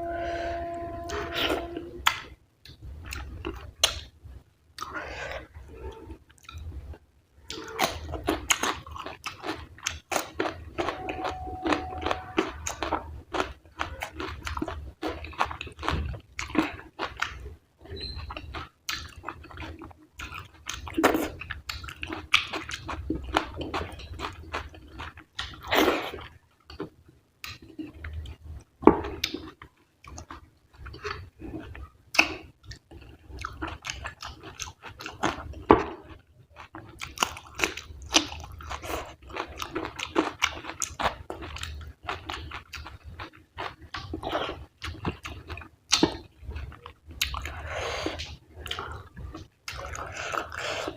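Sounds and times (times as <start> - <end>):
close chewing with wet mouth sounds: 6.3 - 50.9.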